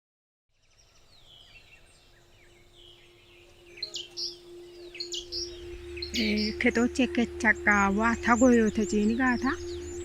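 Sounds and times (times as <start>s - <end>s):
birds chirping: 0.5s - 10.0s
faint low hum: 1.8s - 10.0s.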